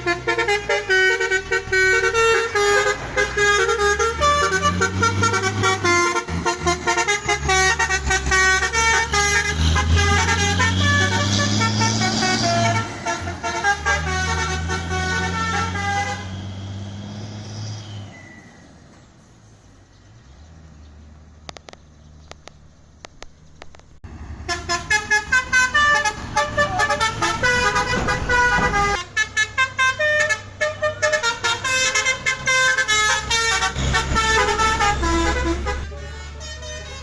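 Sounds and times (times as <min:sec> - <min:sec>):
multi-tone truck horn melody: 0:00.0 - 0:17.9, 0:24.4 - 0:37.0
diesel engine: 0:00.0 - 0:37.0.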